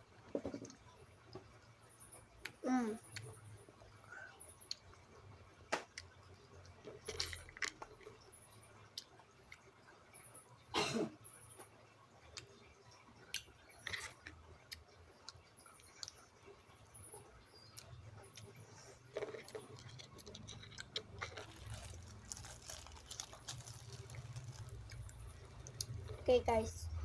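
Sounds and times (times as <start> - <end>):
chewing fries: 0.2 - 10.4, 11.4 - 26.5.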